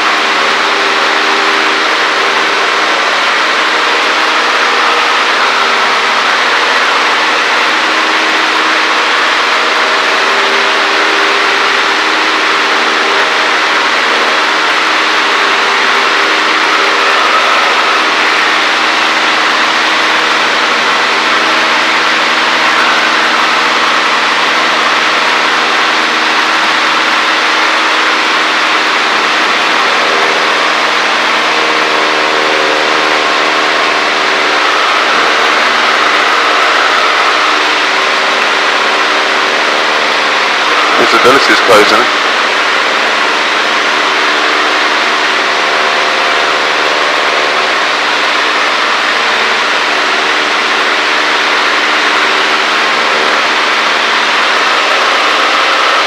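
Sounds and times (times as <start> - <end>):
airplane engine drone in cockpit: 0.0 - 56.0.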